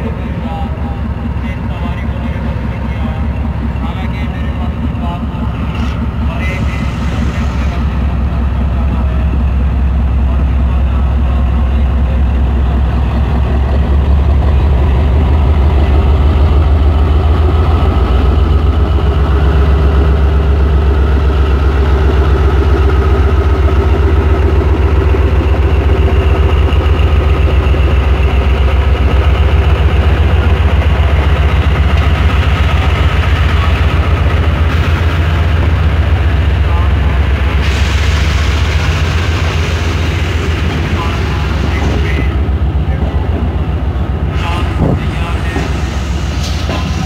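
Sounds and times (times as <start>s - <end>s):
diesel locomotive drone: 0.0s - 47.0s.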